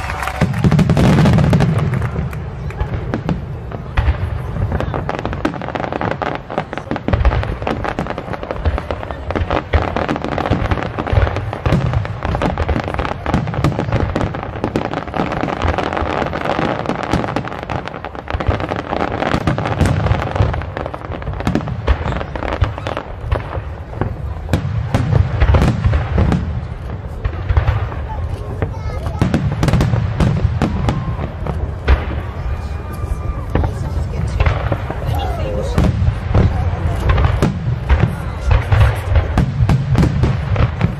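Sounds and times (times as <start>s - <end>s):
crackle of firework stars: 0.0s - 40.9s.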